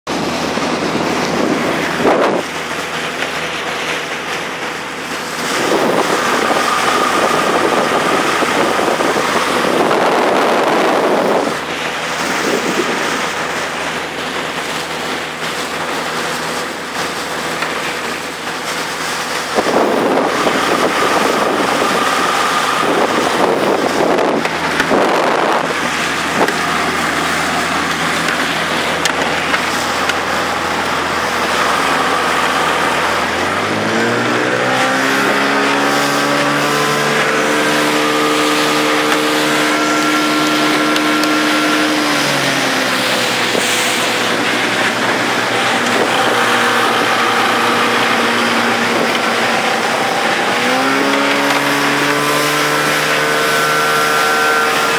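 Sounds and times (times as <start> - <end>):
outboard motor running: 0.0 - 54.9
water rushing past hull: 0.1 - 54.9
wind buffeting microphone: 0.1 - 54.9.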